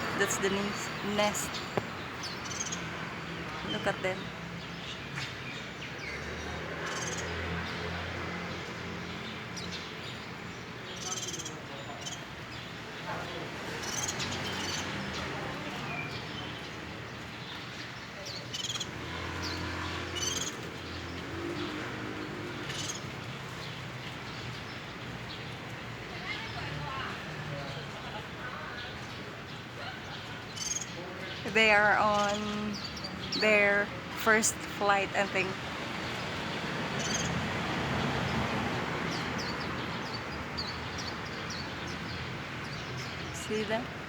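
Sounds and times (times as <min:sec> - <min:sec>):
outdoor background rush: 0:00.0 - 0:44.0
small birds chirping: 0:00.0 - 0:44.0.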